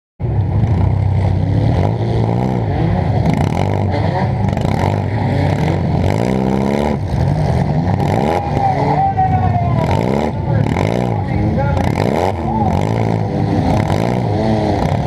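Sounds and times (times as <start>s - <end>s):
car engine revving: 0.2s - 15.0s.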